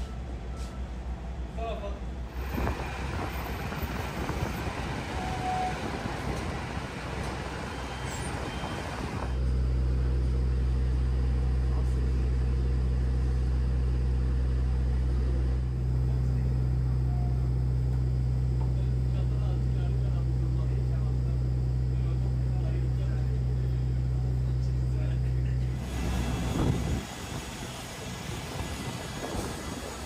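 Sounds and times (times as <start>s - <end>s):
vehicle engine rumble: 0.0s - 30.0s.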